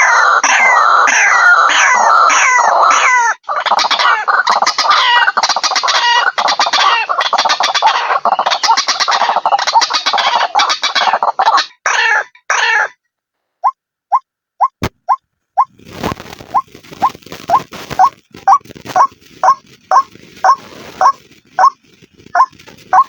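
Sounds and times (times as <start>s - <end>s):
waterhen calling: 0.0s - 12.9s, 16.4s - 21.8s, 22.4s - 23.0s.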